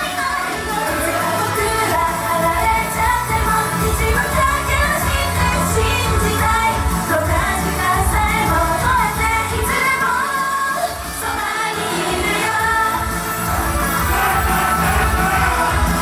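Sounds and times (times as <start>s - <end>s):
pop backing track with heavy beat: 0.0s - 16.0s
women singing pop live: 0.0s - 16.0s.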